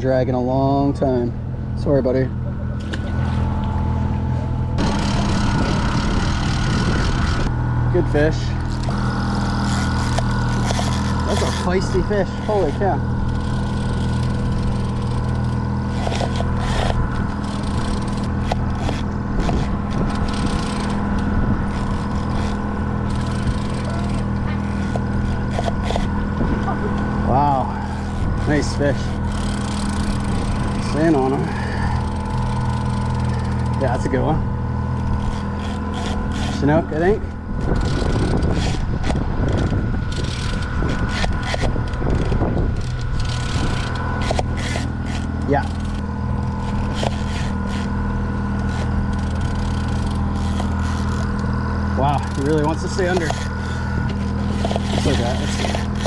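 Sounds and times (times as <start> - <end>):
boat engine humming: 0.0 - 56.0
clicks and scrapes of handling: 8.4 - 56.0.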